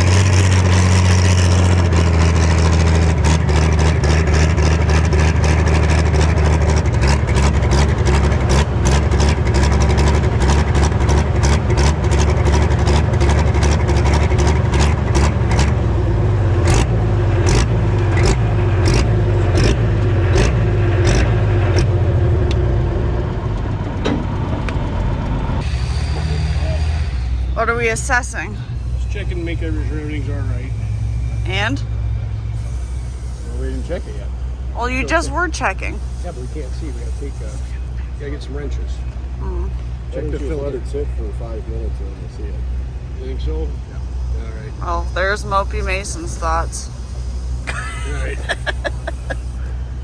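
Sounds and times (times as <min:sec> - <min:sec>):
diesel tractor engine running: 0:00.0 - 0:50.0.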